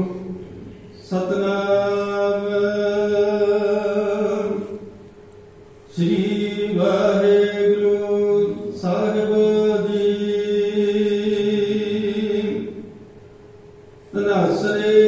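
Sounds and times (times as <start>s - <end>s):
person chanting scripture: 0.0s - 4.8s, 5.9s - 12.9s, 14.1s - 15.0s.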